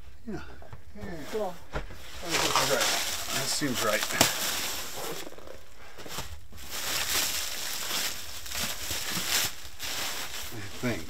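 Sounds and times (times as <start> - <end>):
plastic wrap crinkling: 2.1 - 11.0.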